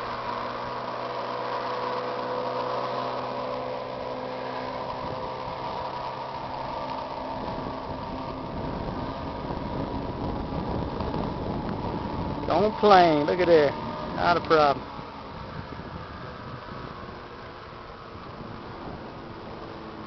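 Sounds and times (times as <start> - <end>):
low rumbling noise: 0.0 - 20.0
outboard motor droning: 0.0 - 20.0.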